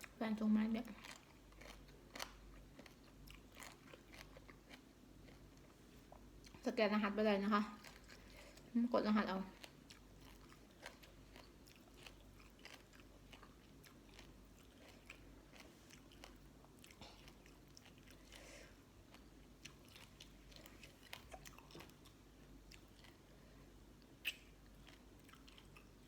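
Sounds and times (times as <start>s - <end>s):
chewing with crisp crunches: 0.0s - 6.8s, 7.4s - 26.0s.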